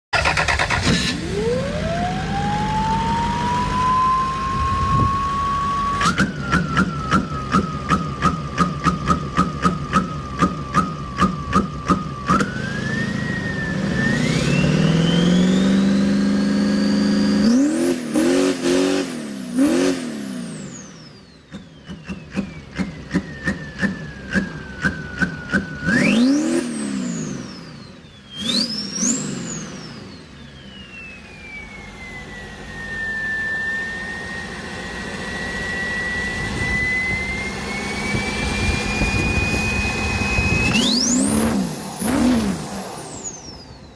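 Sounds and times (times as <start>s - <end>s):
motor whining: 0.2s - 18.2s, 19.2s - 43.9s.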